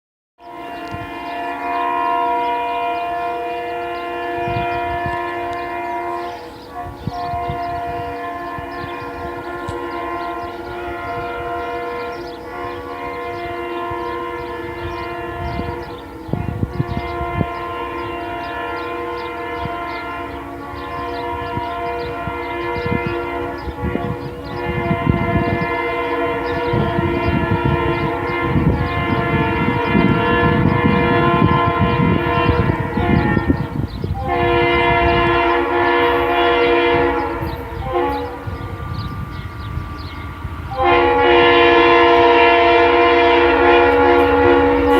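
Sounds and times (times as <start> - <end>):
locomotive air horn blasts: 0.4 - 44.9
low thumps from passing train: 4.1 - 44.9.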